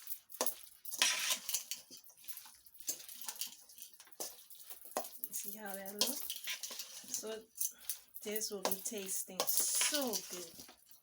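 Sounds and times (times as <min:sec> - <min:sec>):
wet squishing of stuffing being mixed: 0:00.0 - 0:11.0.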